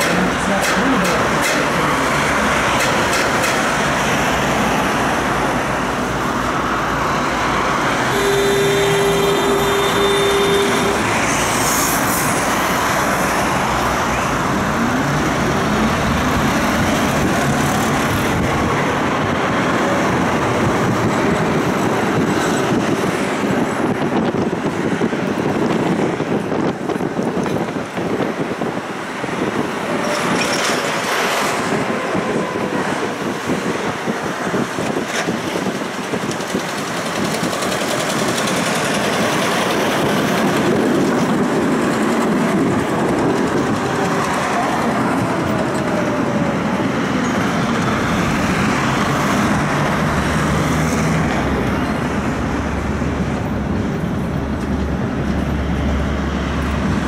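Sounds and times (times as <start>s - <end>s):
tram running noise: 0.0s - 57.0s.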